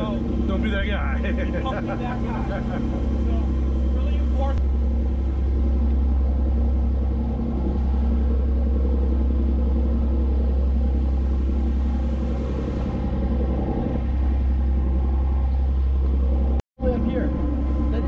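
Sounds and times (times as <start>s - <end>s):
boat engines rumbling: 0.0s - 18.0s.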